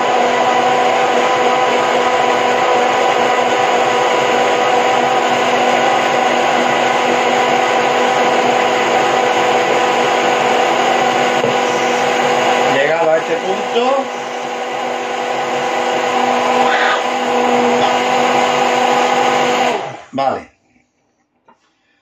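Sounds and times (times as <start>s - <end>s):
immersion blender whirring: 0.0s - 20.4s.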